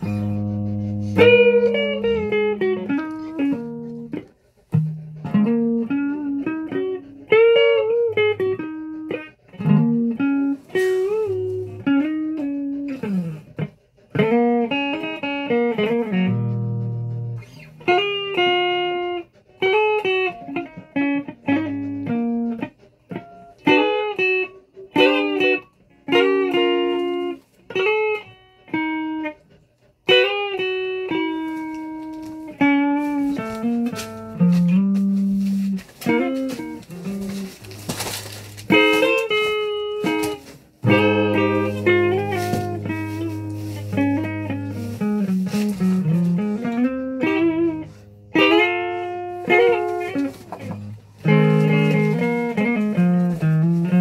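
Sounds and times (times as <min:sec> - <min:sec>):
guitar chords: 0:00.0 - 0:29.4, 0:30.1 - 0:54.0.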